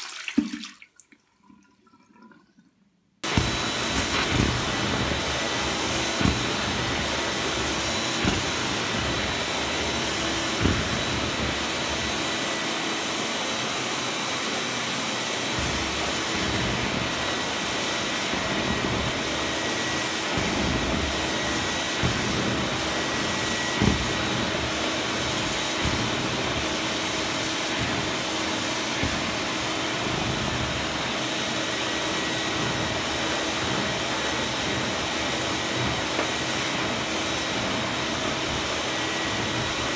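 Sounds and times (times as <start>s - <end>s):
vacuum cleaner running: 3.2s - 39.9s.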